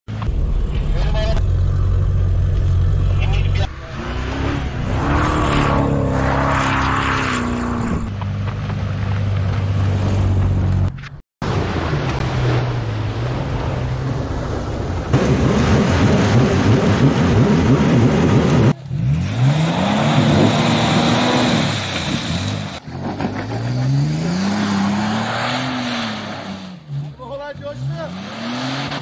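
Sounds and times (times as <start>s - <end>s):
engine revving: 0.2s - 10.9s, 11.5s - 29.0s.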